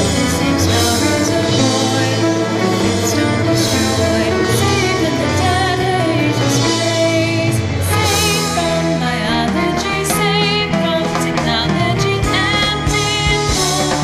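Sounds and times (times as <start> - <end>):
progressive rock band playing: 0.0 - 14.0.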